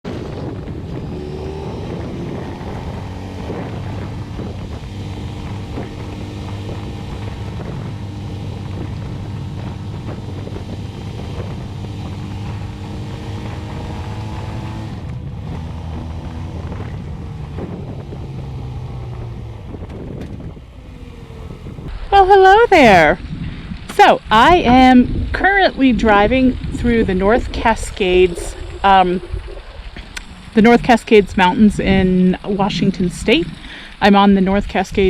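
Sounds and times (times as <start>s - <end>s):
motorcycle engine cruising: 0.0s - 35.0s
wind buffeting microphone: 0.0s - 35.0s.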